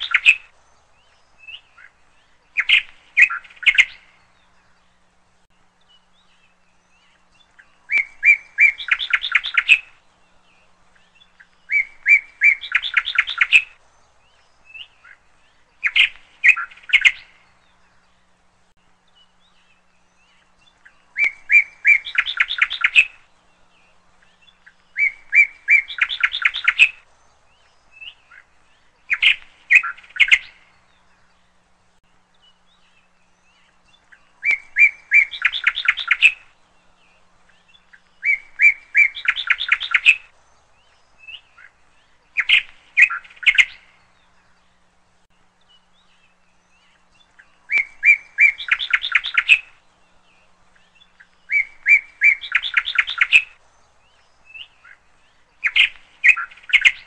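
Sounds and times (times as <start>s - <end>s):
songbird whistling and trilling: 0.0s - 4.8s, 5.9s - 18.0s, 19.1s - 31.3s, 32.4s - 44.5s, 45.6s - 57.0s.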